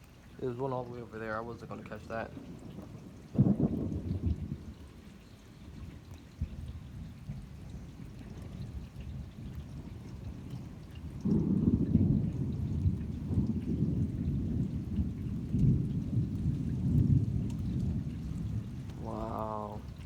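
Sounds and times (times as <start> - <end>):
steady rain: 0.0 - 20.0
thunder rumbling: 1.4 - 5.1, 6.4 - 20.0.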